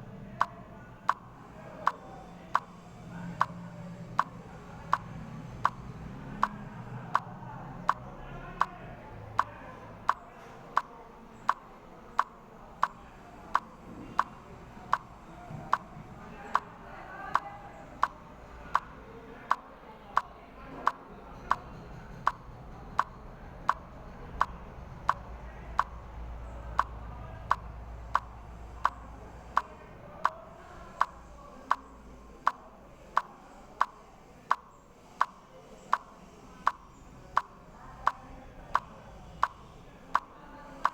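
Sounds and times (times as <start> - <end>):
faint low hum: 0.0 - 40.9
rhythmic ticking clicks: 0.0 - 40.9.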